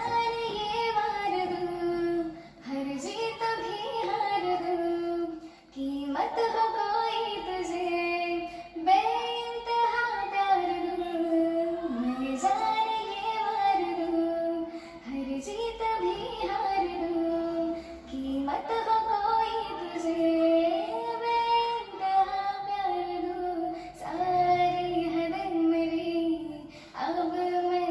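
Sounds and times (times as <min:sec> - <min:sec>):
child singing: 0:00.0 - 0:27.9.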